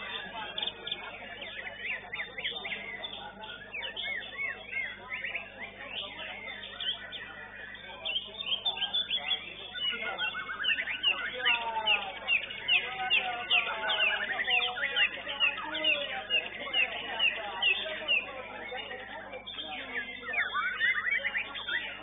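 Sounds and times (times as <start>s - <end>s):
birds singing whistles and chirps: 0.0s - 22.0s.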